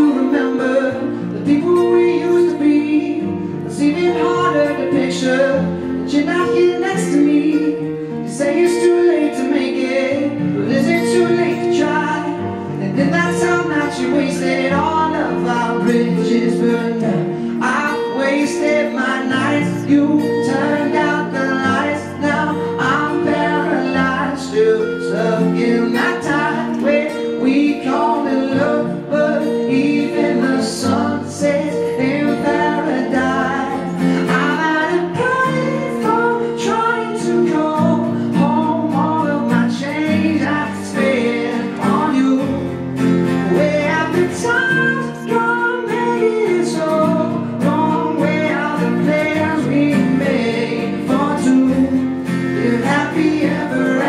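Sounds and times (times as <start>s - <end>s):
acoustic guitar strumming: 0.0s - 54.0s
person singing: 0.0s - 54.0s.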